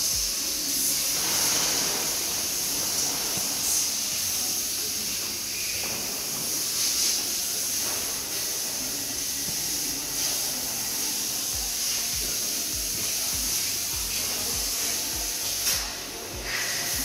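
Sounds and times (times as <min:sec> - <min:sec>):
music with low beat: 0:00.0 - 0:17.0
steady hiss: 0:00.0 - 0:17.0.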